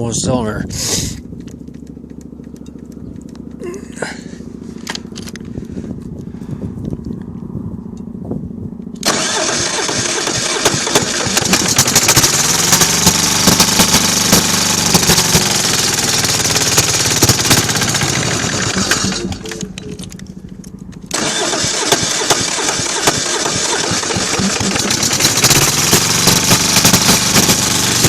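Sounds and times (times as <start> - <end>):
diesel engine cranking: 0.7 - 7.3, 8.8 - 28.0.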